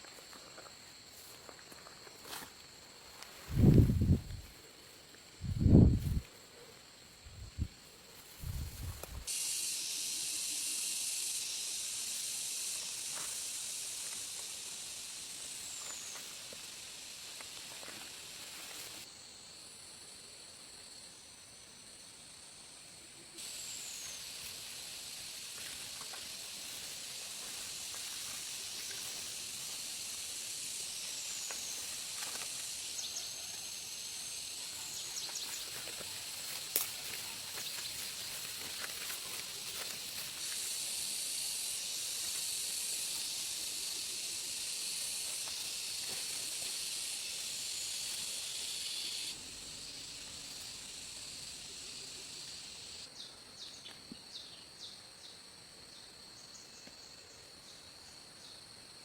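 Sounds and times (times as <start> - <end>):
high-pitched insect drone: 0.0 - 6.3, 7.4 - 53.7.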